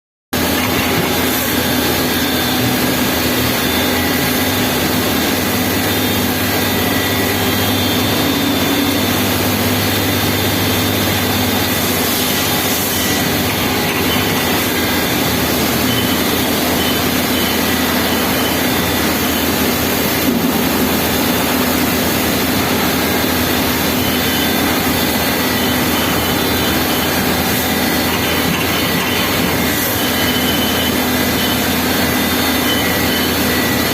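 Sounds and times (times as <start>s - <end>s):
high machine whines: 0.4s - 33.9s
lathe machining: 0.4s - 33.9s.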